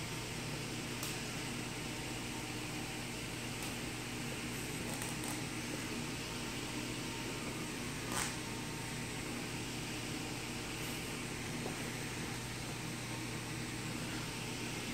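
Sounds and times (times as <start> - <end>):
aquarium equipment hum and hiss: 0.0 - 14.9.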